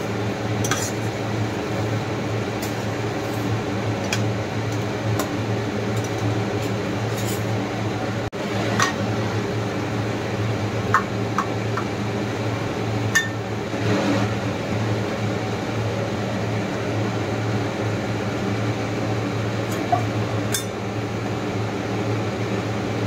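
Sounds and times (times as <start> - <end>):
kitchen appliance hum: 0.0 - 23.0.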